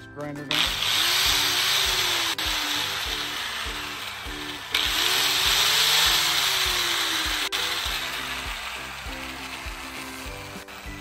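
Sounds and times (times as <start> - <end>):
background music with steady beat: 0.0 - 11.0
angle grinder grinding metal: 0.5 - 11.0.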